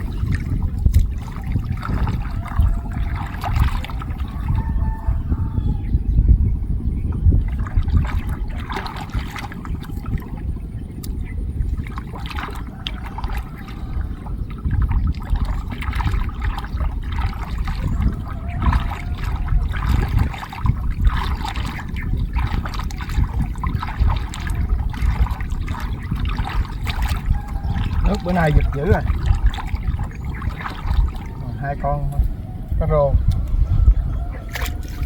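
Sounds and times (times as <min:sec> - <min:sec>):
water splashing and trickling: 0:00.0 - 0:05.8, 0:06.9 - 0:35.0
steady low rumble: 0:00.0 - 0:35.0.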